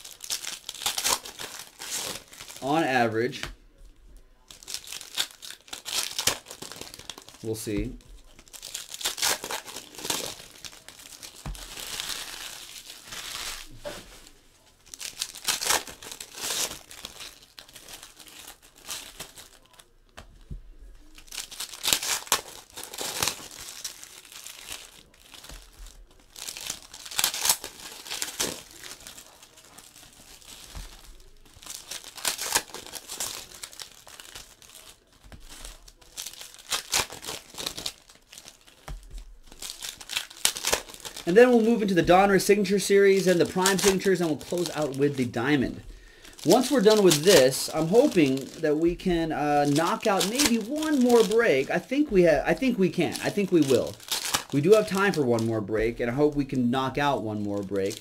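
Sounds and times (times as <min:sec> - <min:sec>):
foil wrappers tearing and crinkling: 0:00.0 - 0:03.5, 0:04.4 - 0:58.0.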